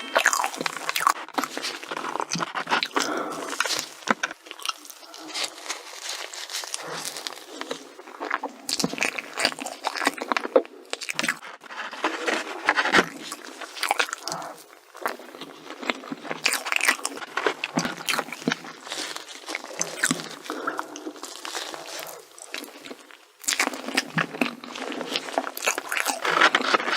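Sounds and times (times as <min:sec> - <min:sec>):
chewing with crisp crunches: 0:00.0 - 0:26.9.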